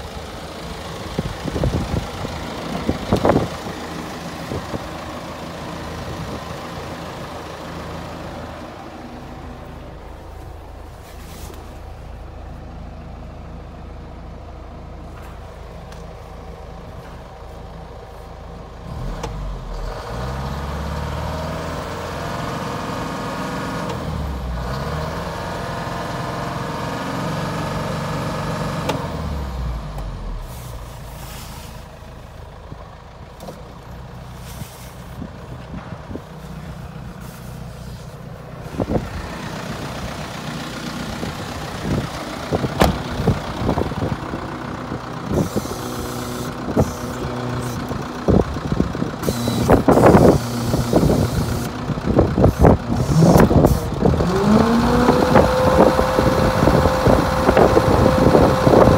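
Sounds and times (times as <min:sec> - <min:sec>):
truck engine revving and idling: 0:00.0 - 0:58.9.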